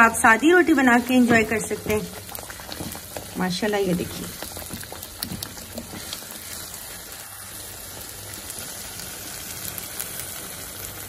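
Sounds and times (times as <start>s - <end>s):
greens sizzling in a skillet: 0.0s - 11.0s.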